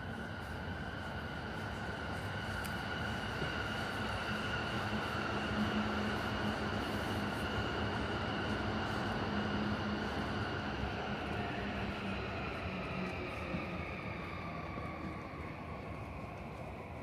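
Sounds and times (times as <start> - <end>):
electric train running on tracks: 0.0 - 17.0.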